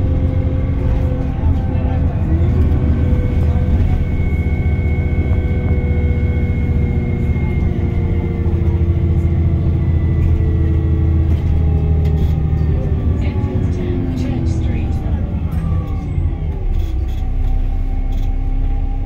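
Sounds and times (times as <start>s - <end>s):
bus engine rumble: 0.0s - 19.0s
gearbox whine: 0.0s - 19.0s.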